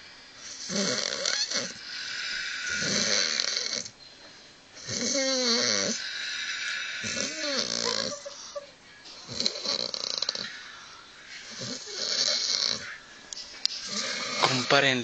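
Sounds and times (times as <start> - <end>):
man snoring heavily: 0.0 - 3.9, 4.8 - 8.5, 9.2 - 13.0, 13.8 - 15.0.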